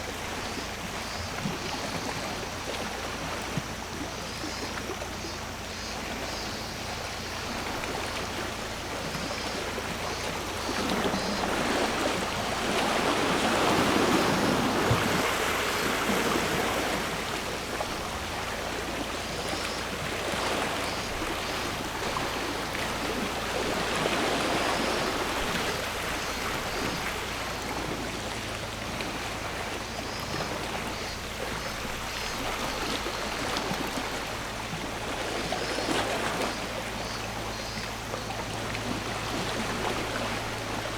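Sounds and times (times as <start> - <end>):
sea waves washing ashore: 5.0 - 40.9.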